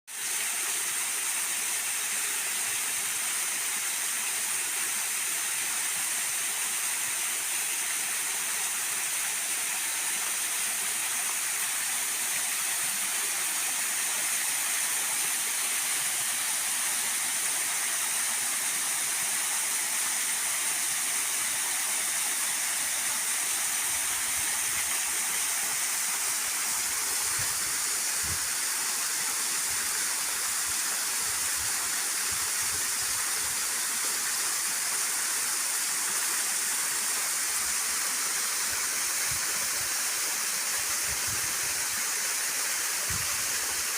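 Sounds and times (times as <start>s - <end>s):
waterfall rushing: 2.6s - 43.9s.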